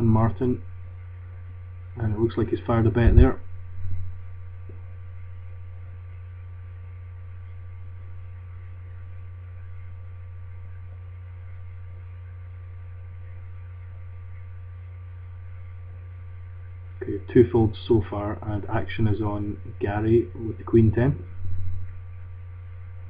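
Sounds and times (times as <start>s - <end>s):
faint high whines: 0.0s - 23.0s
steady low hum: 0.0s - 23.0s.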